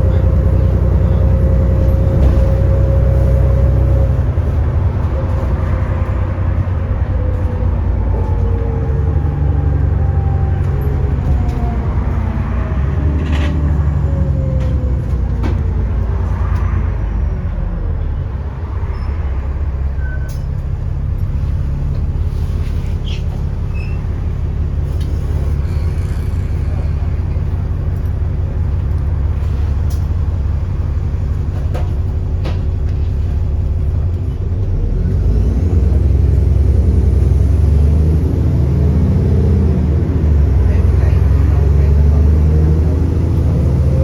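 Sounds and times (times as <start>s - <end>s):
bus diesel engine running: 0.0s - 44.0s.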